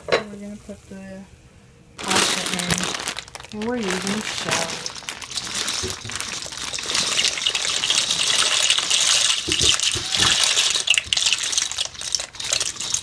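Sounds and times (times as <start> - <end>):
pasta shells pouring into water: 2.0 - 13.0.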